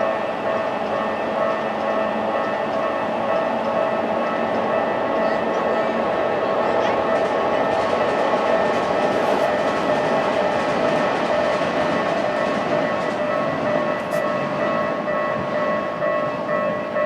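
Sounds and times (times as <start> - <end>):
crossing warning bells ringing: 0.0 - 17.0
train wheels rumbling on rails: 0.0 - 17.0.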